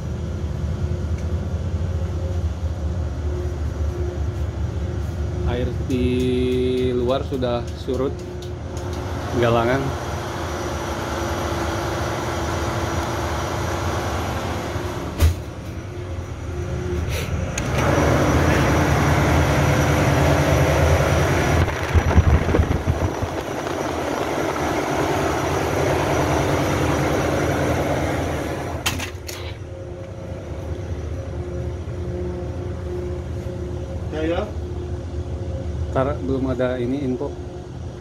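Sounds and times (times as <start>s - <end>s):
engine-room machinery drone: 0.0s - 38.0s.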